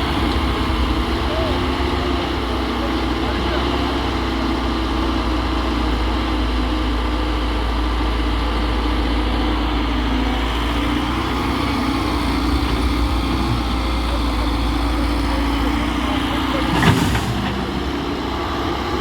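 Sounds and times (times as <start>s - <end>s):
diesel machinery engine drone: 0.0s - 19.0s.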